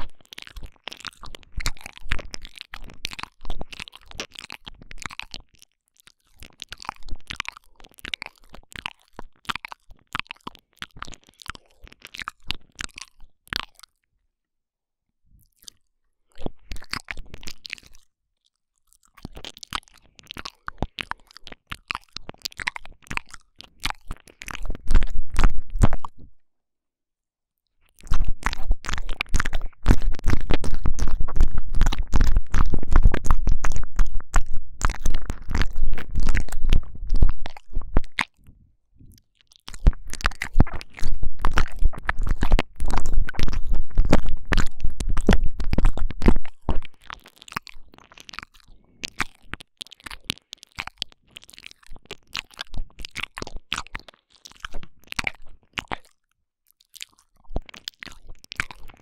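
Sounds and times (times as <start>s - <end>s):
lip smacks: 0.0s - 14.0s, 15.4s - 18.1s, 18.9s - 26.3s, 27.9s - 59.0s
wet mouth sounds: 0.0s - 14.0s, 15.4s - 26.4s, 27.8s - 59.0s
tongue clicks: 0.0s - 14.1s, 15.4s - 26.3s, 27.9s - 59.0s.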